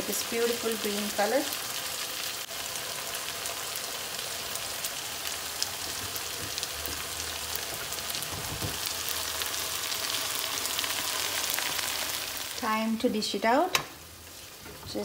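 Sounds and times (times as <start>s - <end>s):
curry sizzling in oil: 0.0s - 15.0s.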